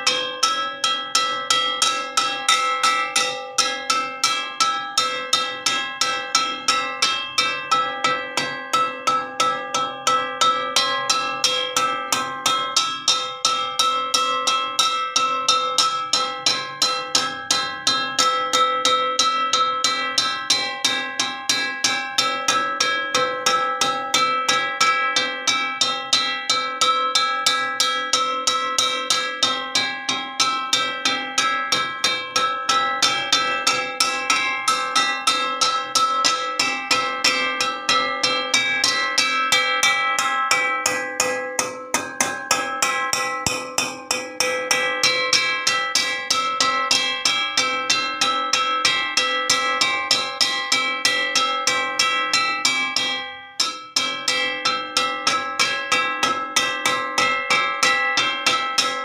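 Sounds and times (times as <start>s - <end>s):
metal wok struck ringing: 0.0s - 59.0s.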